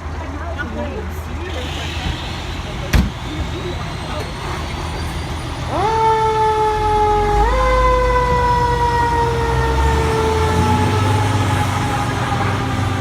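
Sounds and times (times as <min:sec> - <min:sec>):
truck engine rumble: 0:00.0 - 0:13.0
fire truck siren wailing: 0:01.5 - 0:13.0.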